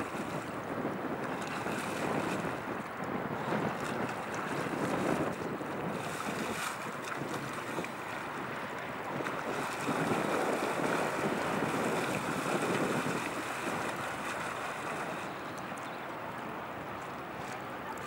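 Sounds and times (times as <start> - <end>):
river water rushing: 0.0 - 18.0
wind buffeting microphone: 0.0 - 18.0.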